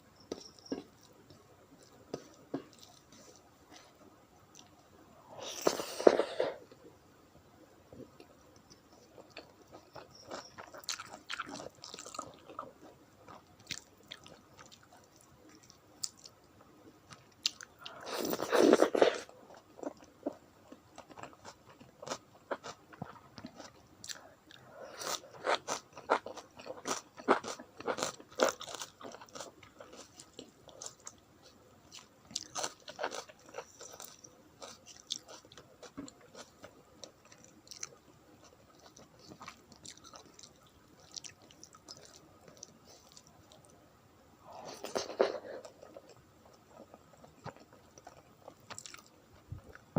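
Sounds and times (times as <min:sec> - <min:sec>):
person chewing and crunching food: 0:00.2 - 0:04.8, 0:08.0 - 0:43.8, 0:44.5 - 0:49.9.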